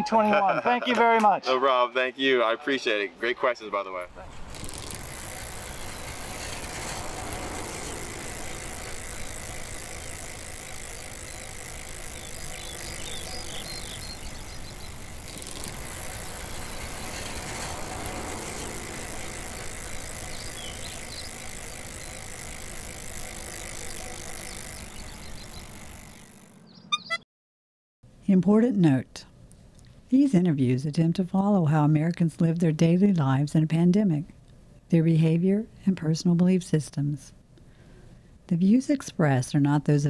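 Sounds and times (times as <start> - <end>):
outdoor hum and hiss: 0.0 - 26.2, 28.1 - 40.0.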